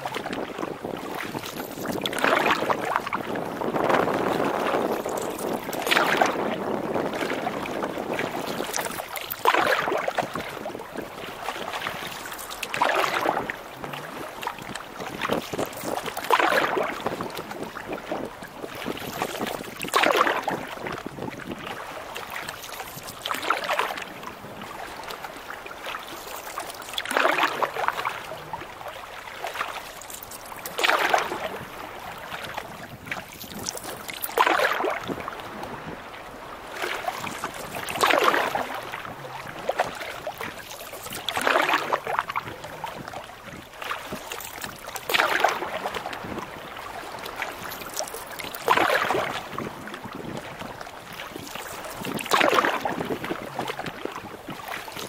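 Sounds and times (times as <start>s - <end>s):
paddle strokes splashing: 0.0s - 55.0s
wind and water hiss: 0.0s - 55.0s.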